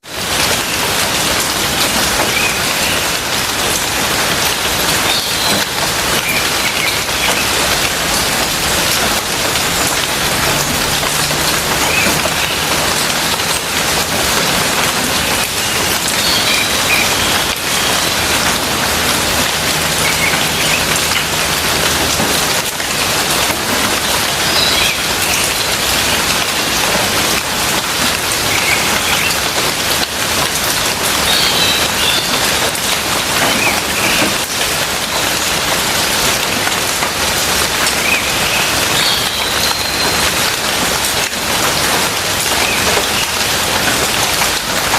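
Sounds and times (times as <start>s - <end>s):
rain falling steadily: 0.0s - 44.9s.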